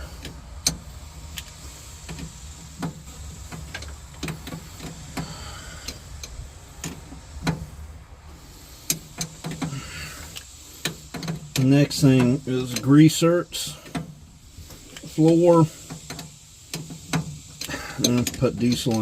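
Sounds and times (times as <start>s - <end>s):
hand tools tapping on metal: 0.0s - 7.7s, 8.8s - 19.0s
steady low hum: 0.0s - 19.0s.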